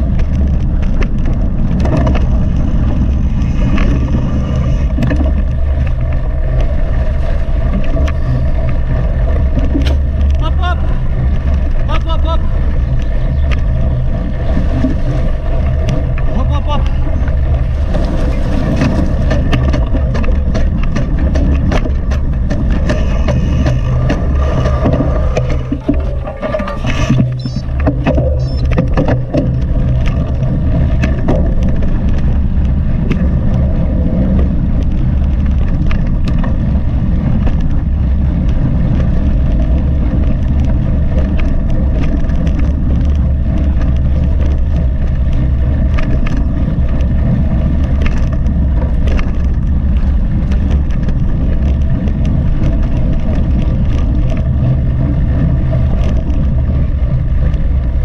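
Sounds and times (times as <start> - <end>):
bike clicking and rattling: 0.0 - 58.0
tyres rolling over trail: 0.0 - 58.0
wind on microphone: 0.0 - 58.0.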